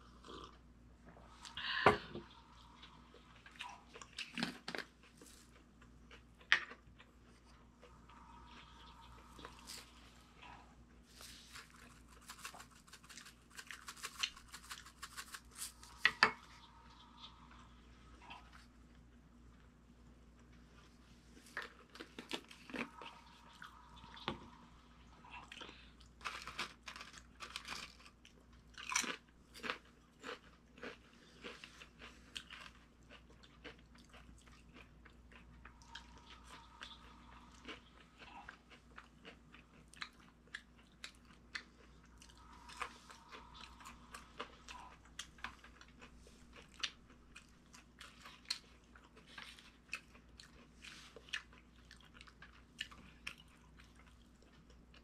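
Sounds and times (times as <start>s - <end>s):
person chewing crunchy food: 2.2s - 18.8s, 20.4s - 55.0s.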